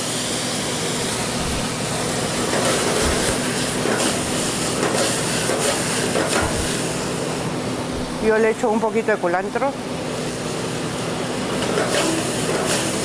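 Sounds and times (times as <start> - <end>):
food sizzling in a wok: 0.0 - 8.2, 9.9 - 13.0.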